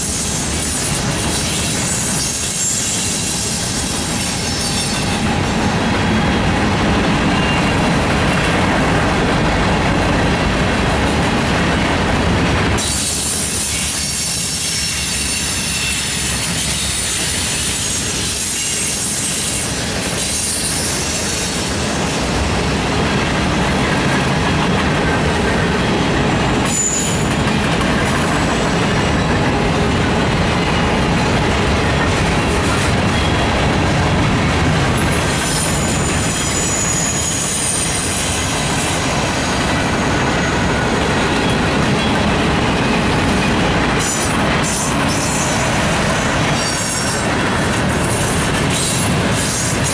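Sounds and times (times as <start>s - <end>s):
squealing train wheels: 0.0s - 10.3s, 12.8s - 49.9s.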